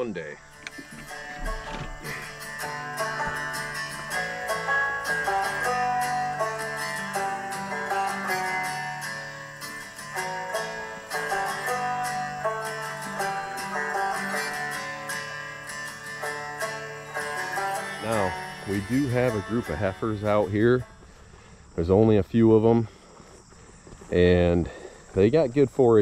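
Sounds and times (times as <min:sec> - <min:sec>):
plucked string instrument music: 0:00.0 - 0:21.0.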